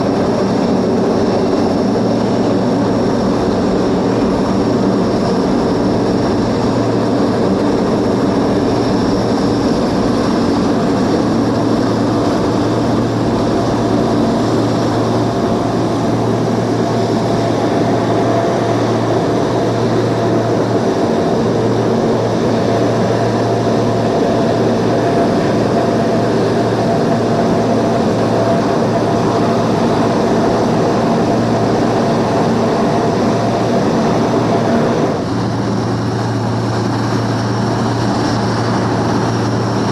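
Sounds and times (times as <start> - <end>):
aircraft engines roaring: 0.0 - 39.9.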